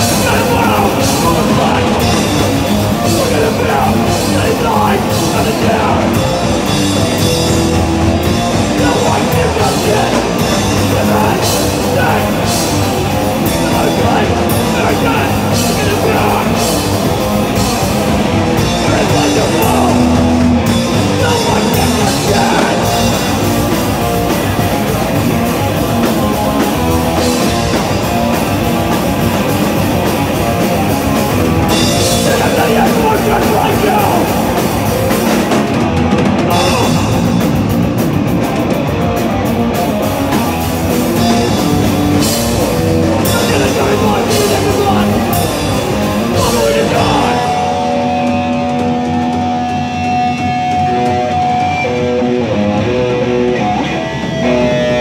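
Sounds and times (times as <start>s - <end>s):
punk band playing live: 0.0s - 55.0s.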